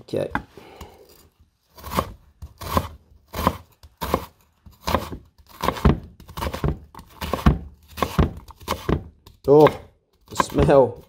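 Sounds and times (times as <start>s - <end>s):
knife chopping on wooden board: 1.8s - 11.0s.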